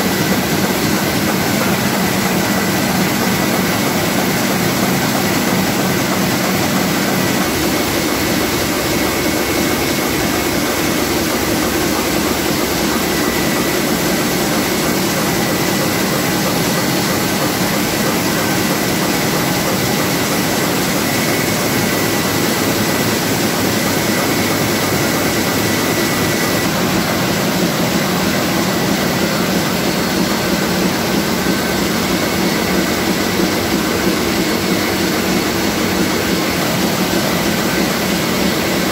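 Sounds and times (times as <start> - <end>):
printing press mechanical din: 0.0 - 38.9.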